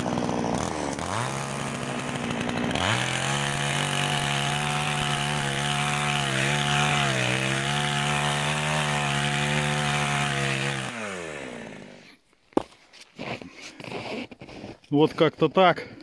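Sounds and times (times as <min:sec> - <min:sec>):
chainsaw cutting: 0:00.0 - 0:14.8.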